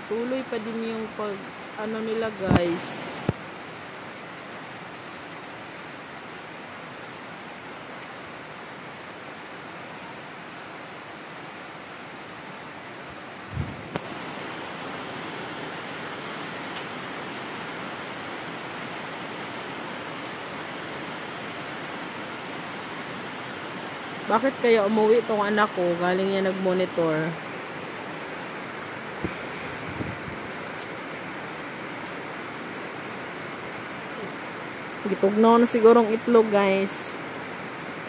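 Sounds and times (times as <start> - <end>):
flooding river rushing: 0.0 - 38.0
heavy rain: 0.0 - 38.0.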